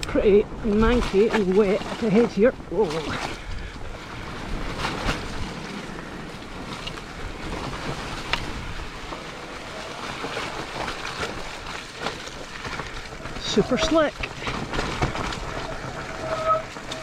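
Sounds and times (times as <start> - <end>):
bike tyres rolling through mud: 0.0 - 17.0
wind on microphone: 0.0 - 17.0.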